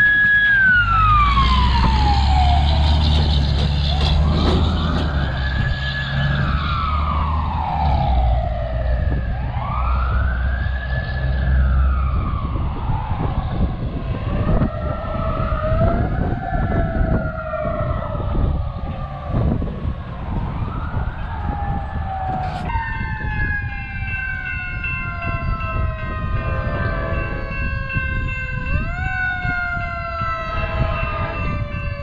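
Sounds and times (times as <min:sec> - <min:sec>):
fire truck sirens wailing: 0:00.0 - 0:32.0
heavy truck engine rumbling: 0:00.0 - 0:32.0.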